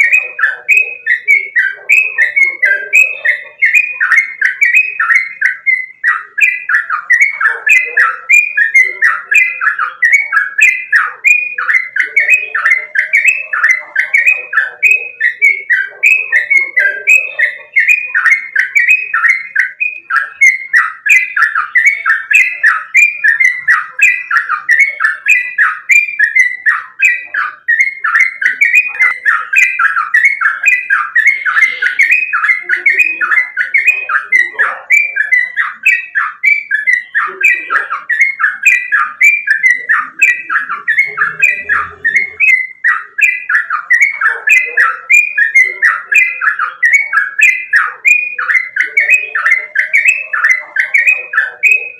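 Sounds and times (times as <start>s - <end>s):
bird singing chattering notes: 0.0s - 51.9s.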